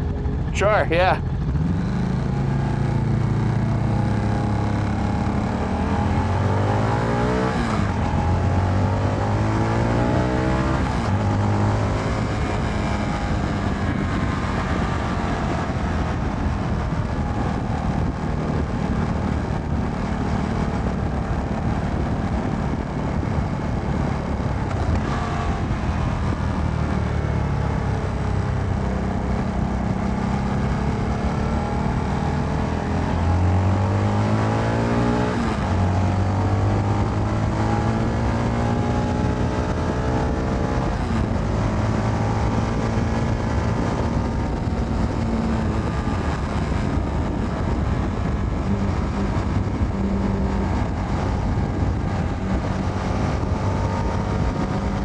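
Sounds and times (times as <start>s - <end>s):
wind and road noise: 0.0s - 55.0s
motorcycle engine accelerating: 1.3s - 55.0s.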